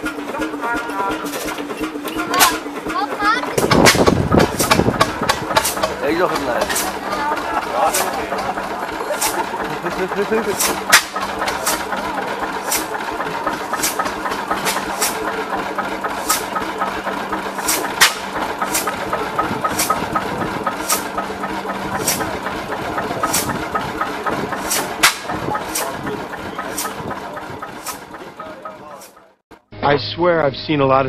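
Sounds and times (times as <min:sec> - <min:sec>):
exhaust pops: 0:00.0 - 0:29.3
diesel engine running slowly: 0:00.0 - 0:31.0.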